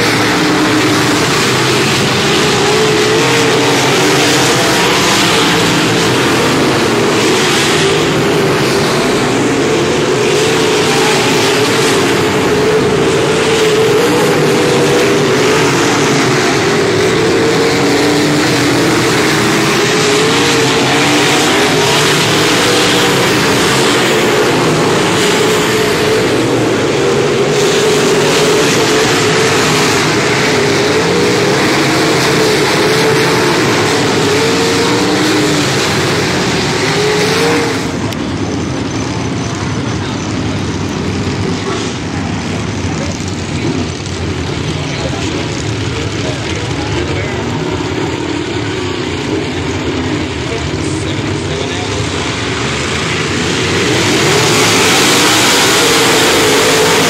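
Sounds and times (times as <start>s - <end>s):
race car engines roaring: 0.0s - 57.0s.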